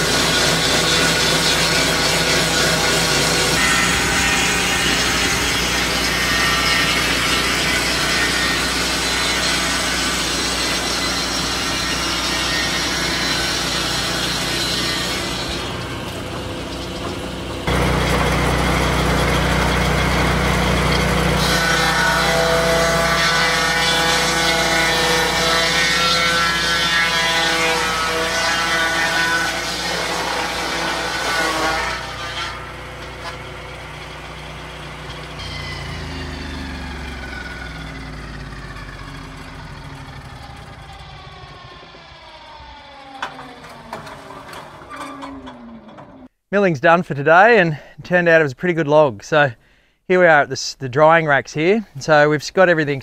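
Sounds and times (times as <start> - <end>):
sawmill blade cutting log: 0.0 - 46.3.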